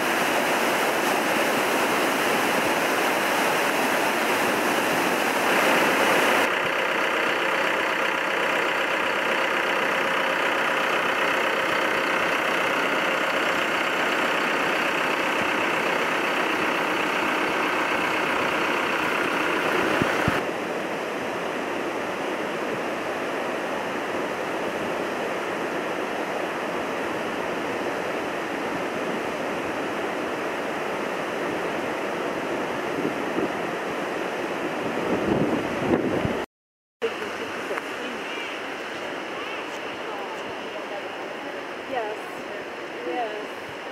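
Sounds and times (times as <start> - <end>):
floodwater rushing over a dam: 0.0 - 36.4, 37.0 - 43.9.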